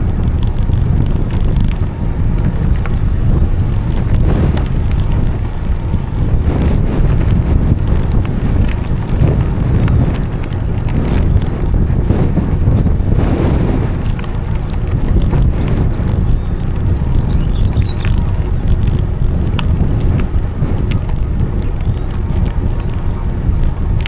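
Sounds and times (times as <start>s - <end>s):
small clicks and rattles: 0.0s - 24.0s
wind buffeting microphone: 0.0s - 24.0s.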